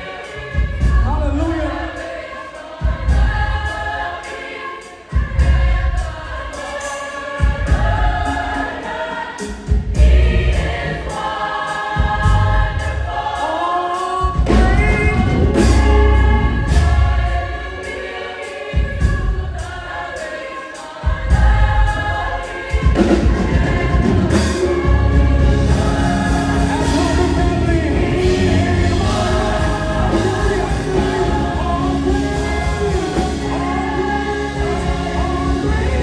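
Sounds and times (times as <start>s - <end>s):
choir singing worship song: 0.0s - 36.0s
musical accompaniment: 0.0s - 36.0s.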